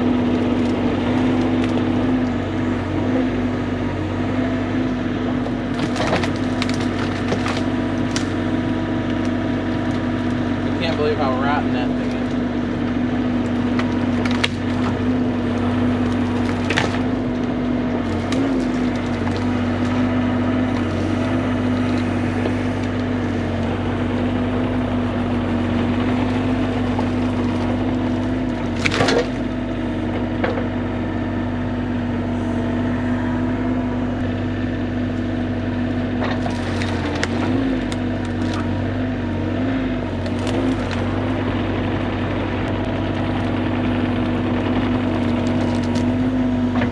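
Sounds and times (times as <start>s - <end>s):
mini excavator running: 0.0s - 46.9s
wood cracking and splintering: 0.0s - 46.9s.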